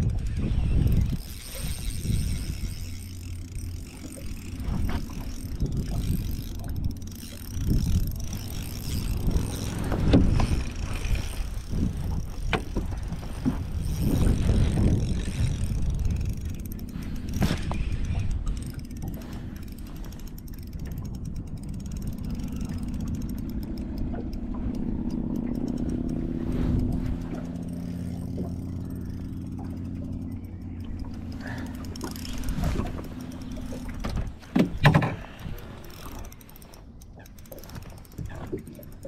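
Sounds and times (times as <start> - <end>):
fishing reel gears ticking: 0.0 - 34.6, 35.2 - 39.0
low uneven rumble: 0.0 - 39.0.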